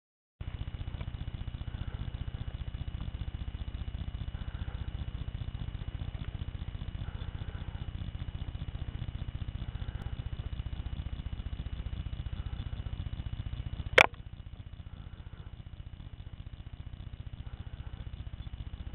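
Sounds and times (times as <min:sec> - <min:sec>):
engine idling: 0:00.4 - 0:18.9.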